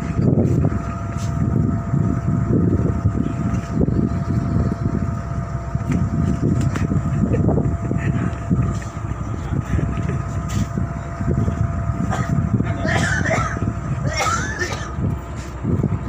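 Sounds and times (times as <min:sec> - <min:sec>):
diesel engine rumbling: 0:00.0 - 0:16.0
faint steady whine: 0:00.0 - 0:16.0.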